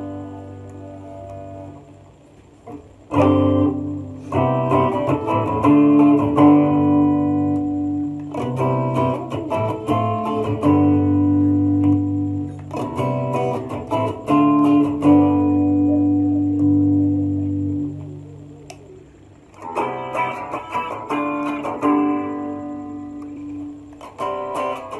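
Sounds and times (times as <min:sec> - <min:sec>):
electric guitar phrase: 0:00.0 - 0:24.9.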